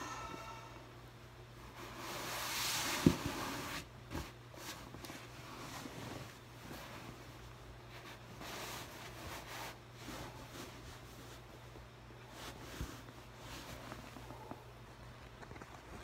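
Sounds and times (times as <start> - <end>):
rustling of clothes and balloon: 1.5 - 16.0.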